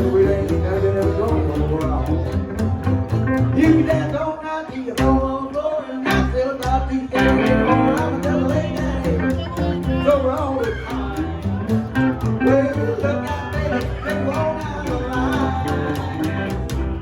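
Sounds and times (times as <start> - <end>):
guitar lead with bending notes: 0.0 - 4.3, 5.0 - 17.0
live country band playing: 0.0 - 17.0.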